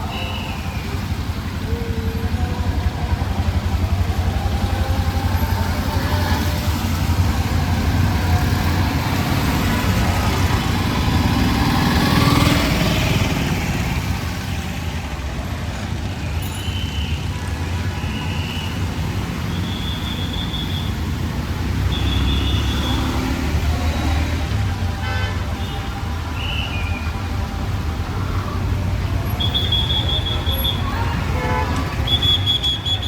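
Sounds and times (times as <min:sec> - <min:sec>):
traffic engines humming: 0:00.0 - 0:33.0.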